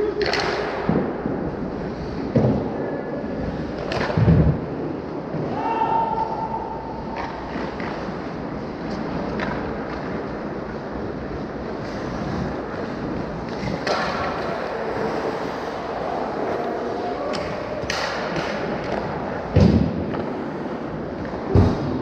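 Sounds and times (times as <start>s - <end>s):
skating and play on ice: 0.0s - 22.0s.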